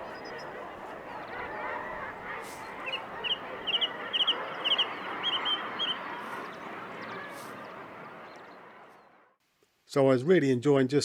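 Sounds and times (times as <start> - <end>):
seabird colony calling: 0.0 - 9.2.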